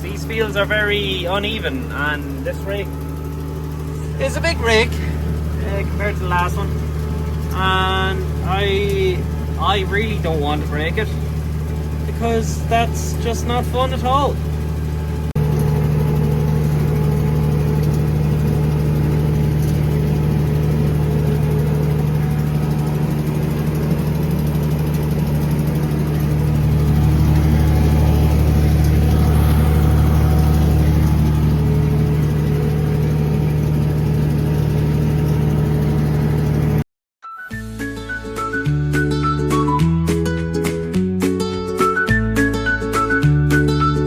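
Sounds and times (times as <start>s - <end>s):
tractor engine running under load: 0.0s - 36.8s.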